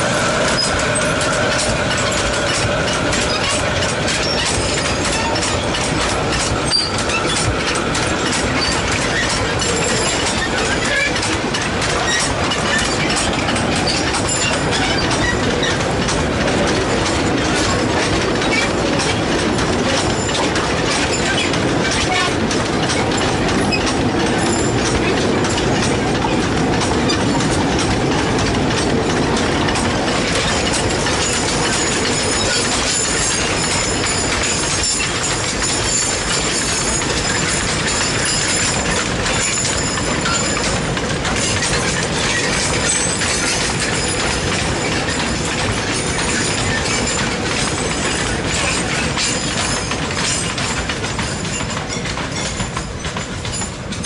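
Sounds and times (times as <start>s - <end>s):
train wheels rumbling and clattering: 0.0s - 54.0s.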